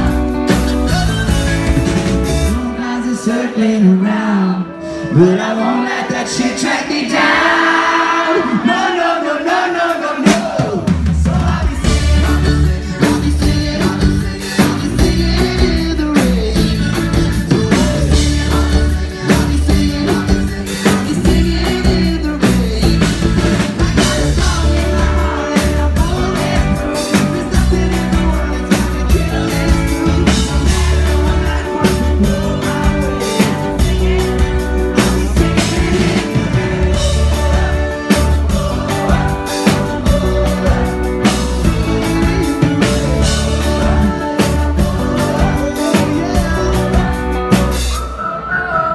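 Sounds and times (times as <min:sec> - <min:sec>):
heavy bass line: 0:00.0 - 0:02.7, 0:11.1 - 0:48.0
drum kit: 0:00.0 - 0:02.8, 0:07.2 - 0:48.2
electric guitars: 0:00.0 - 0:08.7, 0:10.2 - 0:48.7
crowd singing: 0:00.0 - 0:48.9
person singing: 0:00.0 - 0:48.9.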